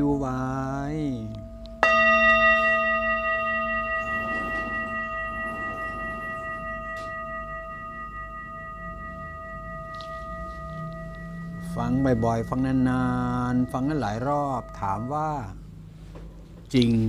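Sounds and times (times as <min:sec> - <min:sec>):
singing bowl ringing: 0:00.0 - 0:16.6.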